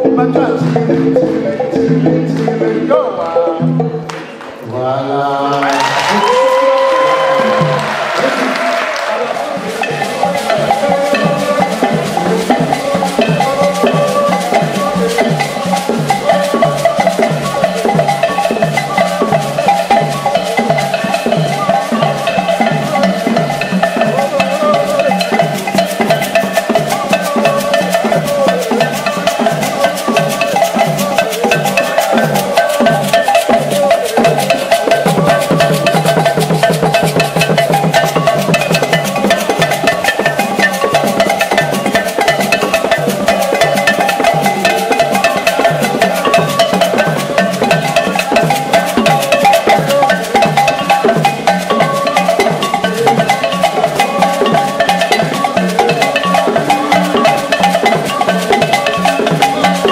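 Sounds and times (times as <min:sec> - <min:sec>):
hand drums beaten with sticks: 0:00.0 - 0:04.5, 0:05.6 - 0:59.9
shakers: 0:05.7 - 0:59.9.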